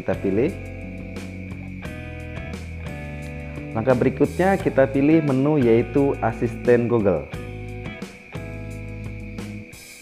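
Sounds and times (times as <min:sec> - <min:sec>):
held chords: 0:00.0 - 0:09.8.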